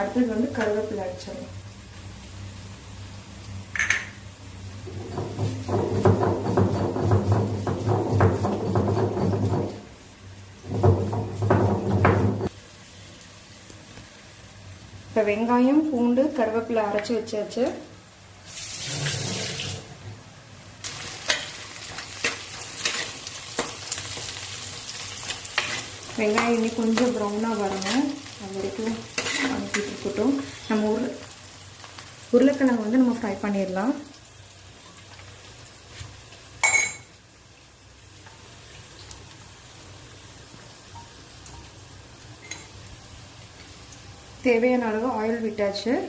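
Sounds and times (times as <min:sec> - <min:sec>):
onions sizzling in hot oil: 0:00.0 - 0:46.0.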